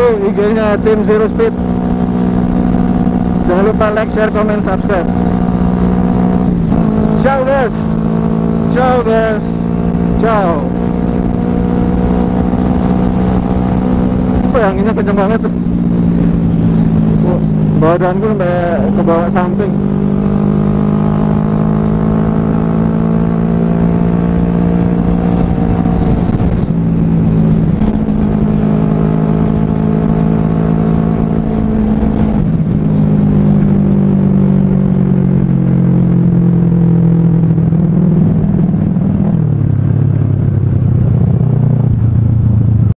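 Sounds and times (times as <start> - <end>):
rushing wind: 0.0 - 42.9
motorcycle engine cruising: 0.0 - 43.0.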